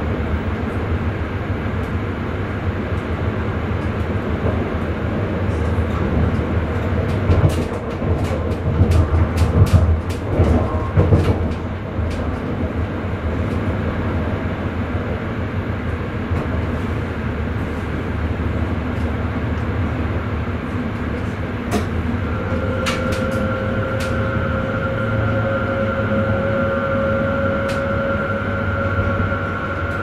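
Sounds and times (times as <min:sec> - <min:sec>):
steady whine: 0:00.0 - 0:30.0
train rumble: 0:00.0 - 0:30.0.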